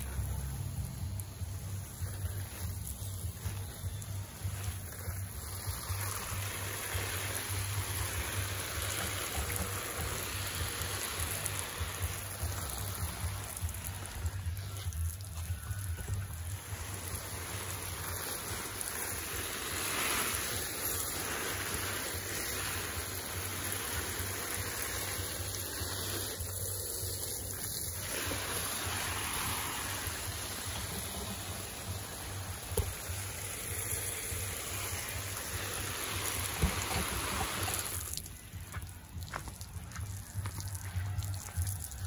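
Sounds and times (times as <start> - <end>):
garden hose spraying water: 0.0 - 42.0.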